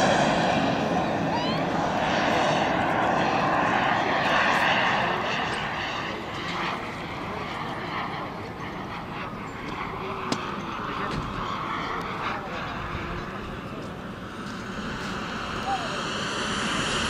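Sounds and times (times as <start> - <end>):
model jet turbine rush: 0.0 - 17.0.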